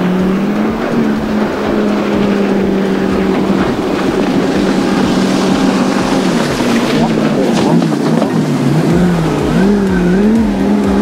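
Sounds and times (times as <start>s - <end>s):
boat hull thudding over waves: 0.0s - 11.0s
outboard motor running: 0.0s - 11.0s
wind and water rushing: 0.0s - 11.0s.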